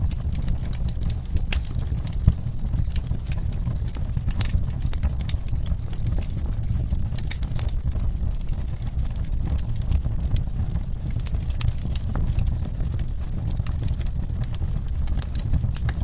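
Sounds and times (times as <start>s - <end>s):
steady low rumble: 0.0s - 16.0s
wood fire crackling and popping: 0.0s - 16.0s.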